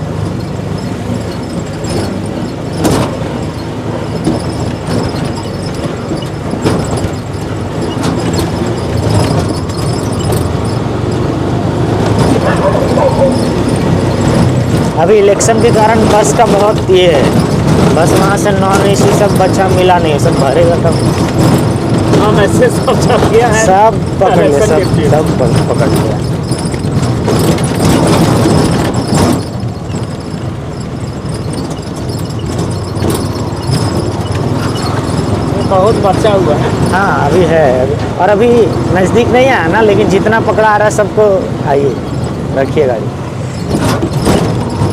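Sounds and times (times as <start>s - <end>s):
wind noise: 0.0s - 40.4s
small motor vehicle engine hum: 0.0s - 40.5s
road noise: 0.0s - 44.9s.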